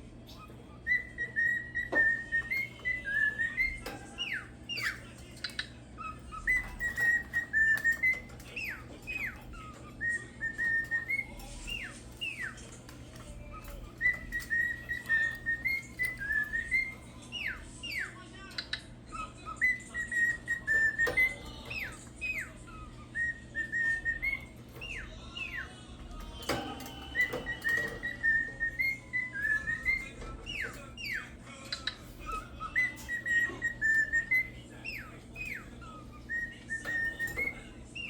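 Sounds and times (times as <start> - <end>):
cockatiel whistling a tune: 0.3 - 25.7, 26.4 - 38.0.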